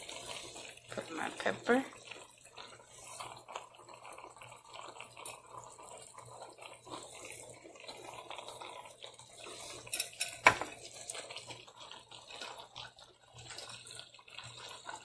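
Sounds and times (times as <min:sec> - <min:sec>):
stew bubbling in a pot: 0:00.0 - 0:15.0.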